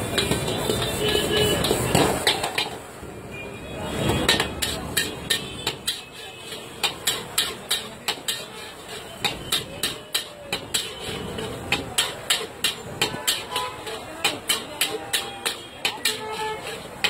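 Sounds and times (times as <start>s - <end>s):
metal spatula clanging on wok: 0.1s - 2.8s, 4.2s - 17.0s.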